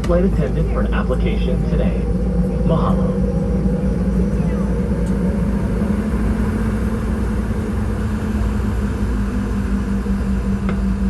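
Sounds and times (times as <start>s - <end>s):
jet engine rumble and hiss: 0.0s - 11.0s
steady low hum: 0.0s - 11.0s.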